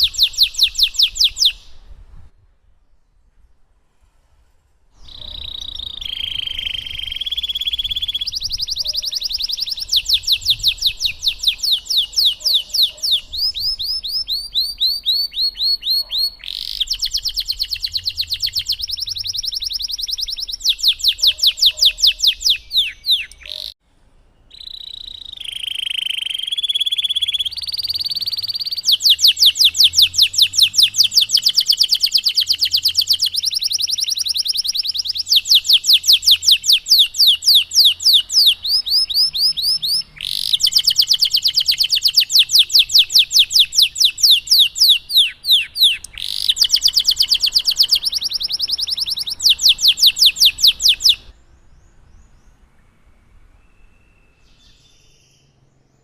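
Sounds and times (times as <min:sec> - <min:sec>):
canary singing: 0:00.0 - 0:01.9, 0:05.0 - 0:23.8, 0:24.5 - 0:55.6.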